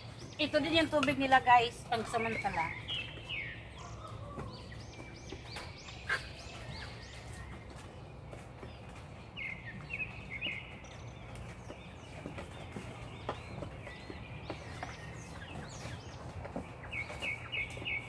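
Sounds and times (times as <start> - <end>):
chickens calling: 1.9 - 18.0.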